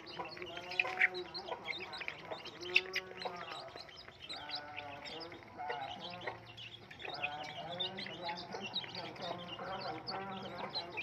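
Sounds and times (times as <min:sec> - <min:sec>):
chicks peeping and chirping: 0:00.0 - 0:11.0
drawn-out chick calls: 0:00.0 - 0:11.0.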